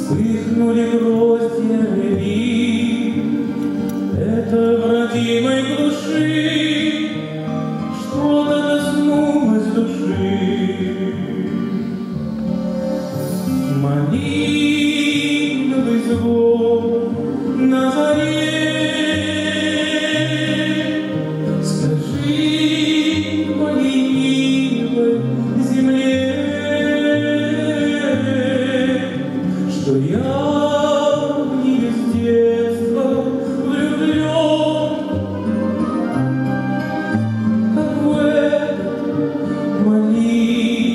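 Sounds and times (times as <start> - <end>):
man singing into a microphone: 0.0 - 12.1, 13.5 - 40.9.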